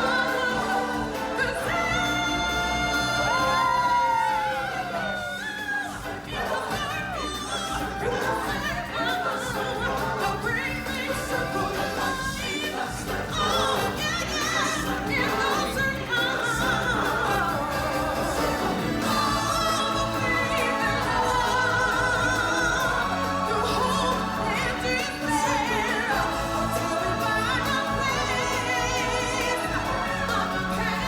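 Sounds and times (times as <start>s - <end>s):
musical accompaniment: 0.0s - 31.0s
several voices singing with vibrato: 0.0s - 31.0s.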